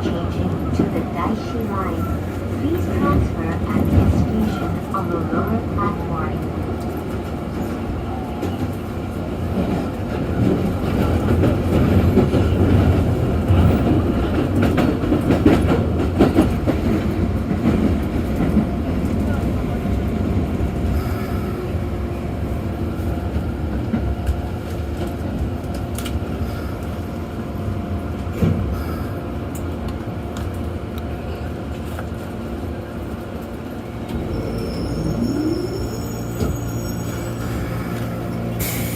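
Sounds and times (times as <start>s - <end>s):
train wheel and rail rumble: 0.0s - 38.9s.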